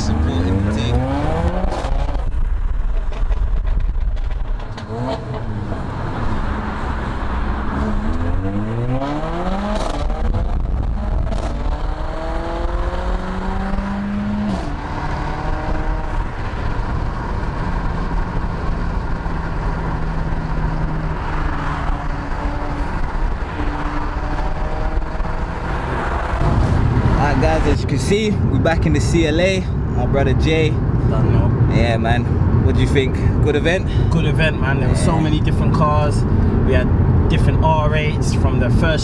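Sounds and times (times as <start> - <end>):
car engine accelerating: 0.0 - 39.0
road and wind noise: 0.0 - 39.0.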